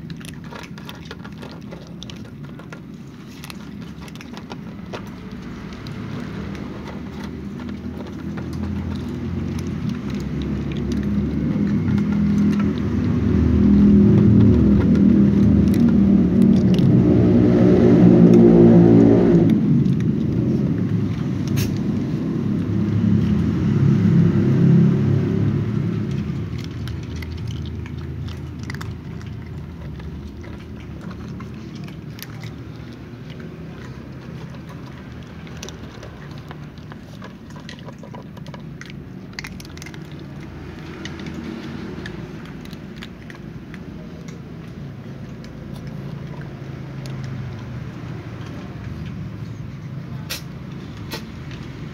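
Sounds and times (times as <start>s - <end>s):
cats crunching dry kibble: 0.0s - 51.9s
vehicle engine humming: 0.0s - 51.9s.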